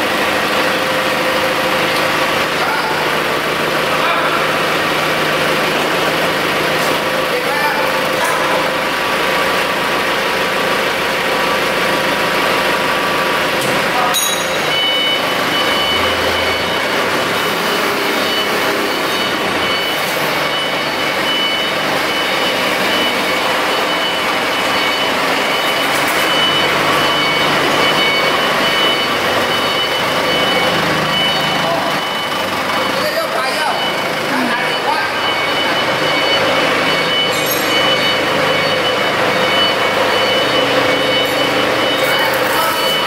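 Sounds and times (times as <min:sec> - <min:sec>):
diesel generator running: 0:00.0 - 0:43.0.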